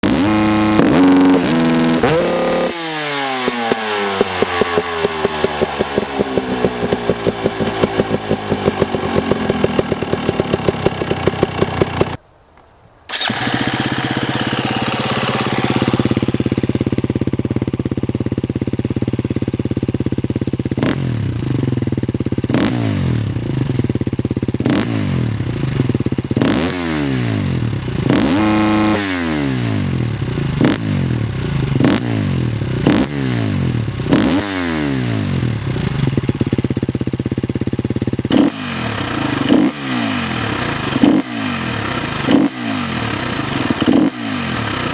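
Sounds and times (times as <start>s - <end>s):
motorcycle engine idling and revving: 0.0s - 12.2s, 13.1s - 44.9s.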